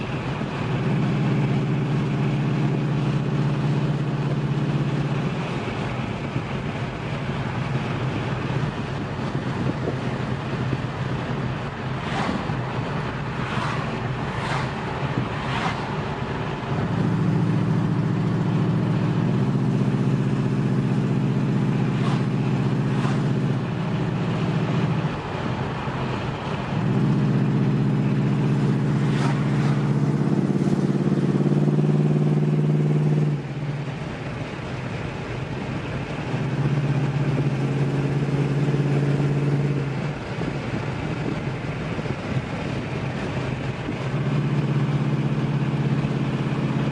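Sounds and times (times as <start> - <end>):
car engine under throttle: 0.0 - 46.9
road and wind noise: 0.0 - 46.9.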